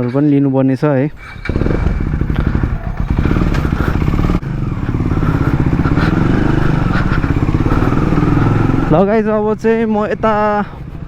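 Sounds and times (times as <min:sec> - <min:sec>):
motorcycle engine while riding: 0:01.1 - 0:11.0.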